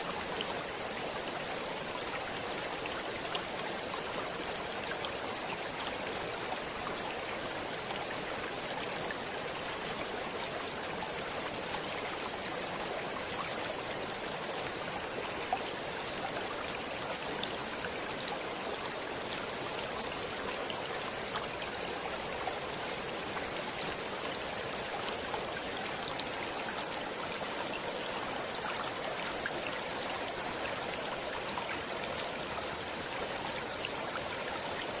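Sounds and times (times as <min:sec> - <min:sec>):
stream running water: 0:00.0 - 0:35.0.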